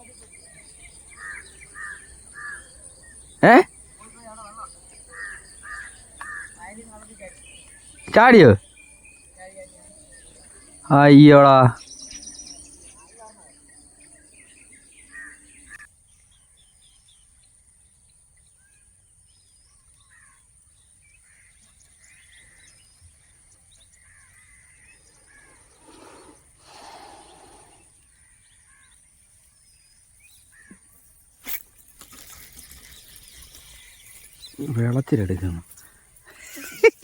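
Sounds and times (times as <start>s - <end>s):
faint bird chirps: 0.0s - 37.0s.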